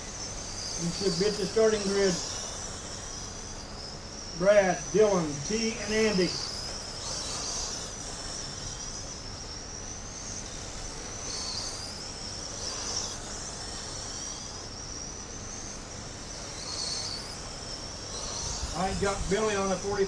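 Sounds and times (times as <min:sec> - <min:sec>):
toy race truck motors whining: 0:00.0 - 0:20.0.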